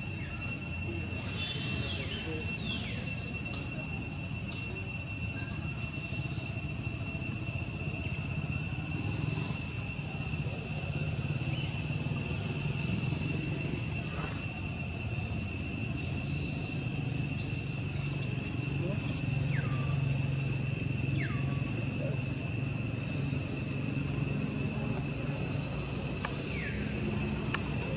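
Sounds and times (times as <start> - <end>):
insects droning: 0.0 - 27.9.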